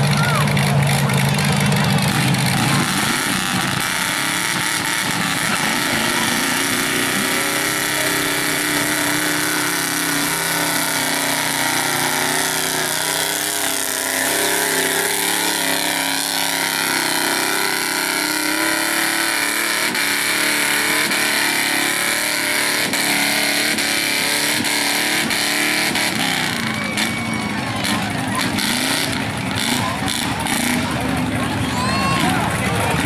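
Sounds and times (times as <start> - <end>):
truck engine running hard: 0.0 - 33.0.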